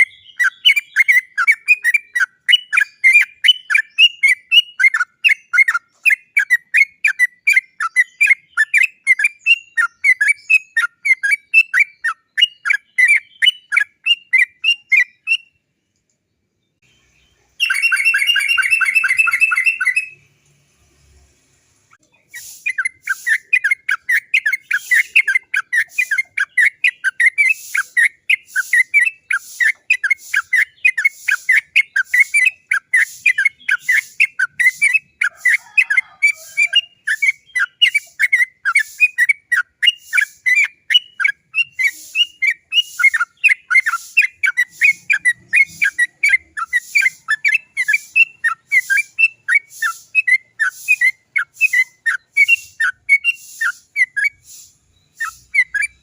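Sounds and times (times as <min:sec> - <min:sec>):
bird chirping rapidly: 0:00.0 - 0:15.7, 0:16.7 - 0:20.3, 0:21.9 - 0:56.0.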